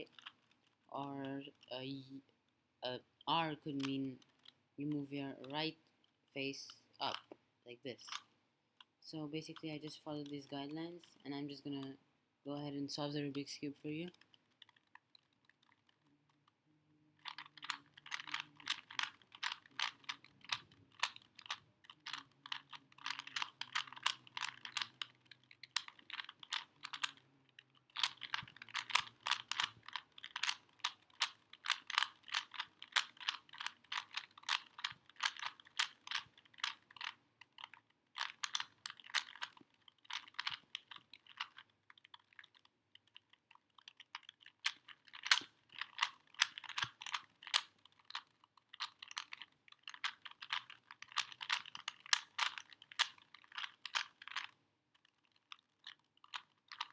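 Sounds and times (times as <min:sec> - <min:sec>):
puzzle cube layers clicking: 0:00.0 - 0:56.9.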